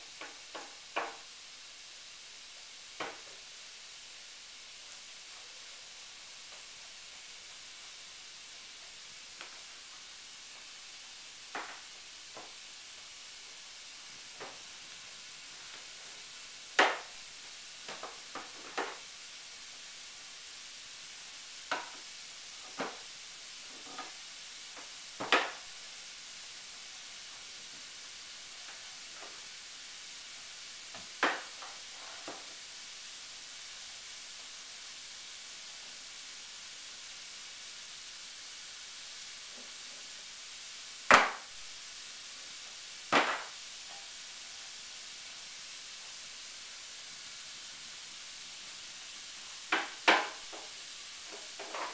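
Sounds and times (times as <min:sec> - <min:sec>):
steady hiss: 0:00.0 - 0:51.9.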